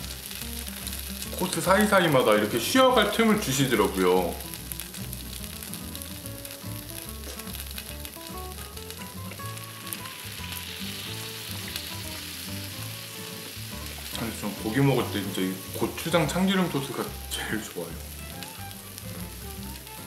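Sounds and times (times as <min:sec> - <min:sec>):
food sizzling on a griddle: 0:00.0 - 0:20.0
quiet background music: 0:00.0 - 0:20.0.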